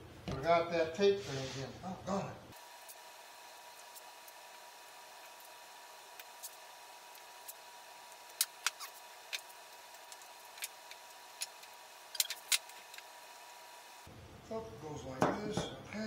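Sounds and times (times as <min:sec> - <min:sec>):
steady hiss: 0:00.9 - 0:15.0.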